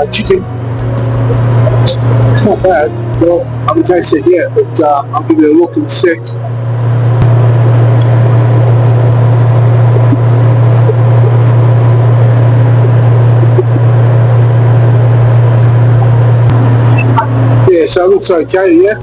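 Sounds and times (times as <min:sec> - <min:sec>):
jet cabin low hum: 0:00.0 - 0:19.0.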